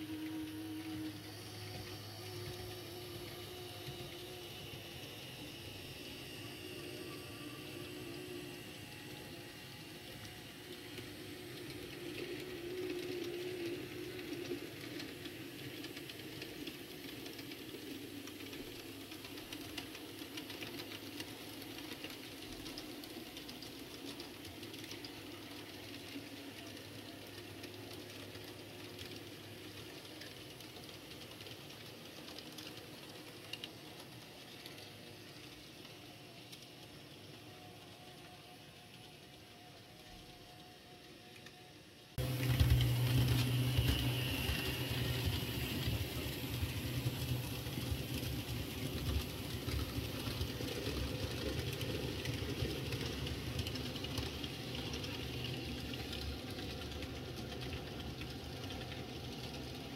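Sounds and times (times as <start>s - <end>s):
model train motor whir: 0.0s - 58.6s
tiny metal wheels clicking on rails: 0.0s - 59.9s.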